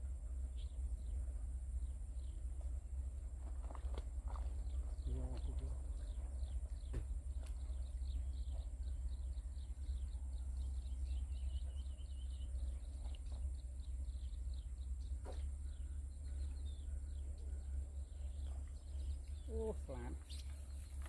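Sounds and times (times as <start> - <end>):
birds chirping: 0.0 - 21.0
low rumble: 0.0 - 21.0.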